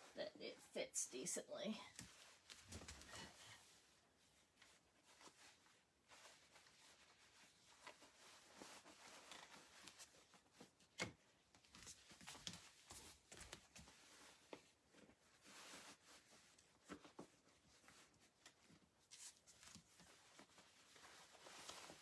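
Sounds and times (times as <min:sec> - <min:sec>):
cloth rustling: 0:01.6 - 0:22.0.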